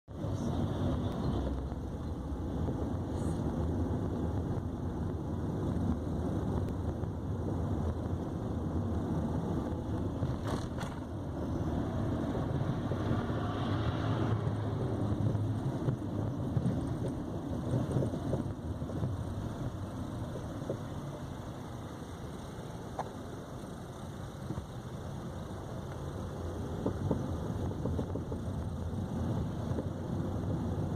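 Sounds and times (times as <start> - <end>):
road and tyre noise: 0.0 - 30.9.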